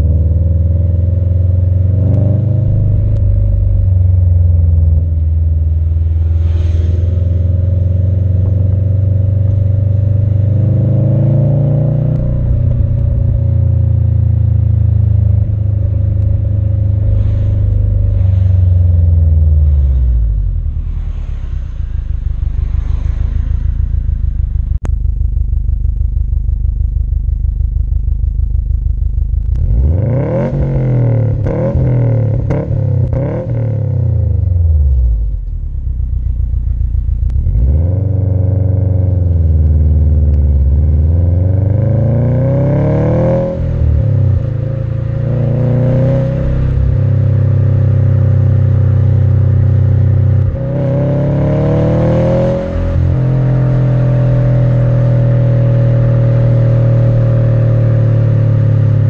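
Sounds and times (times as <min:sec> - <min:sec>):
car exhaust revving: 0:00.0 - 0:59.0.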